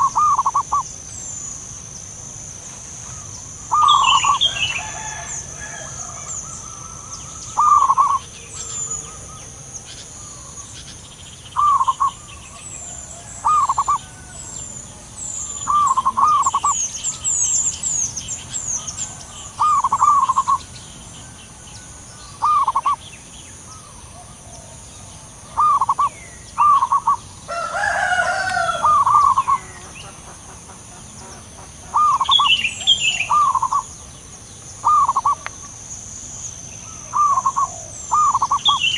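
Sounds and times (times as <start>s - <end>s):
burst of bird calls: 0.0s - 1.6s, 3.0s - 20.8s, 22.2s - 24.0s, 25.4s - 30.4s, 31.2s - 33.9s, 34.8s - 35.8s, 36.8s - 38.9s
doves cooing: 0.0s - 1.7s, 3.0s - 10.8s, 11.6s - 23.0s, 23.6s - 34.0s, 34.8s - 35.8s, 36.8s - 38.9s
small birds twittering: 0.0s - 38.9s
steady high hiss: 0.0s - 38.9s.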